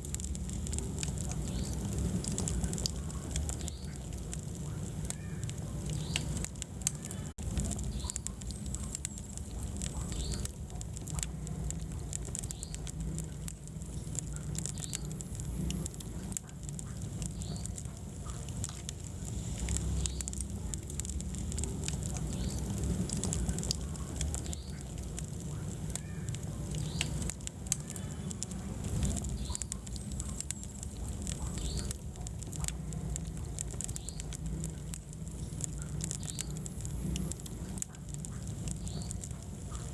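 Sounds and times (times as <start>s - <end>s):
fire crackles and pops: 0.0s - 39.9s
fire flames rumbling: 0.0s - 39.9s.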